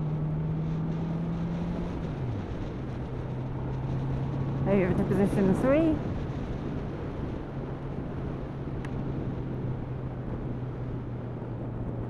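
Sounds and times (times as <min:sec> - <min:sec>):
motorcycle engine cruising: 0:00.0 - 0:12.0
wind noise on microphone: 0:00.1 - 0:12.0.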